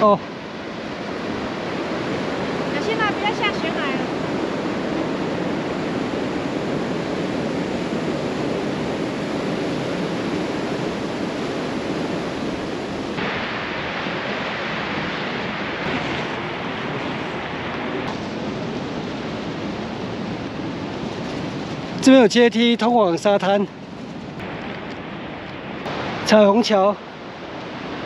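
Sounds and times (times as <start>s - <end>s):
waves breaking on beach: 0.0s - 28.0s.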